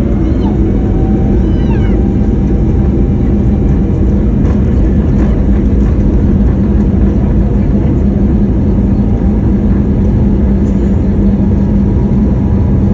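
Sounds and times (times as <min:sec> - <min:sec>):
jet engines during takeoff: 0:00.0 - 0:12.9.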